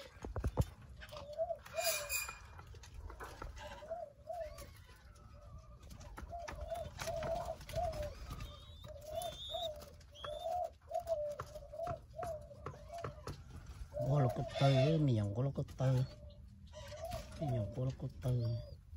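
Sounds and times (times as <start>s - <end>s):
doves cooing: 0.0s - 18.9s.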